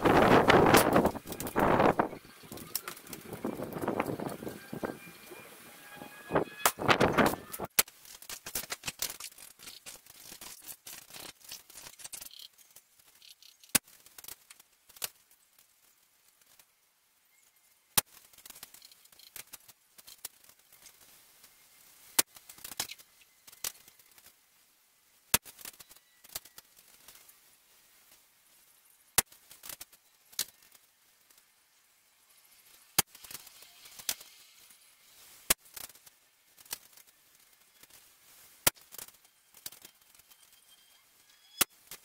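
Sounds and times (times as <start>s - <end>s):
rustling: 0.0s - 16.8s, 18.0s - 42.0s.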